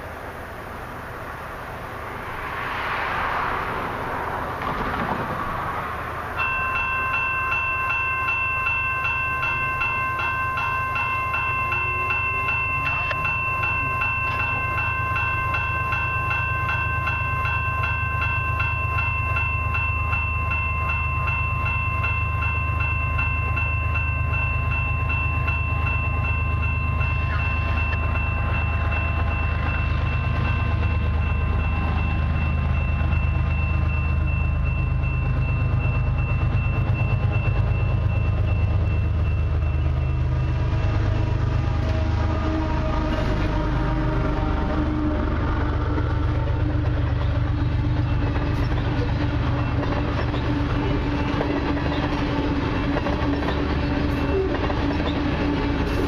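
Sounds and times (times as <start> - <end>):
diesel locomotive rumble: 0.0 - 56.0
railway crossing warning bell: 4.2 - 56.0.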